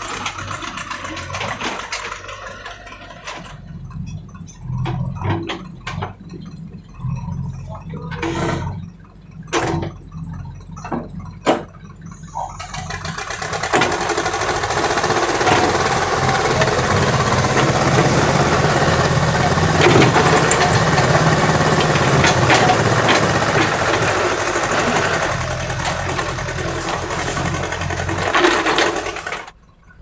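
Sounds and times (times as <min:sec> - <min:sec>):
diesel engine running: 0:00.0 - 0:30.0
knocks and clatter: 0:00.0 - 0:30.0.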